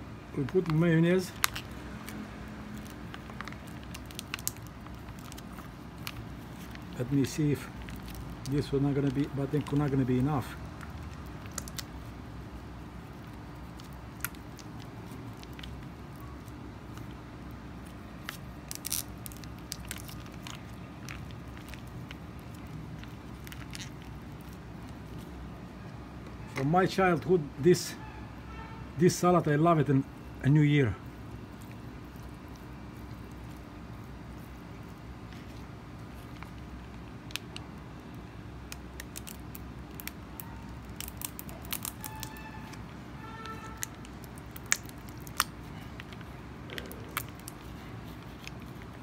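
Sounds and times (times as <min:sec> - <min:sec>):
steady low hum: 0:00.0 - 0:49.0
plastic pouch crinkling: 0:00.4 - 0:25.4, 0:31.1 - 0:49.0.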